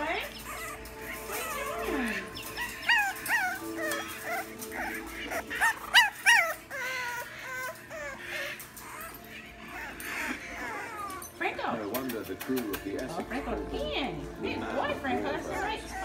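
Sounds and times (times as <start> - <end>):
puppies whimpering and yipping: 0.0 - 16.0.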